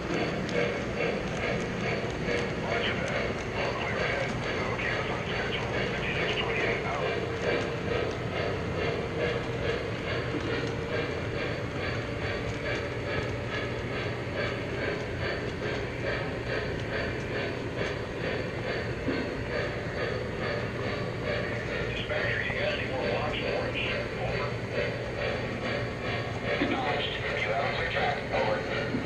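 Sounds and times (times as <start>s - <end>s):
model train rumble and hum: 0.0s - 29.0s
model train wheels clicking: 0.0s - 29.0s.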